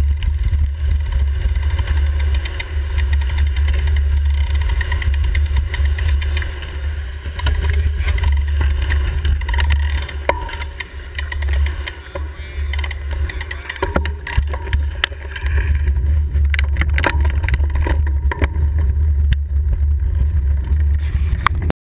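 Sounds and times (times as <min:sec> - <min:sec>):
bicycle rattling over bumps: 0:00.0 - 0:21.7
tyre and road noise: 0:00.0 - 0:21.7.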